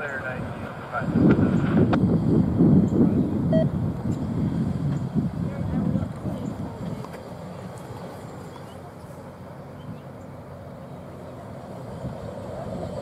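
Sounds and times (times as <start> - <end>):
truck engine and wheels rumbling: 0.0 - 13.0.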